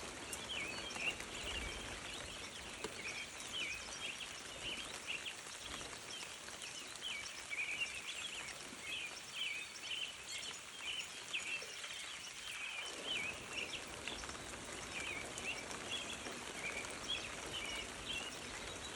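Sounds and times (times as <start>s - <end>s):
steady outdoor hiss: 0.0s - 18.9s.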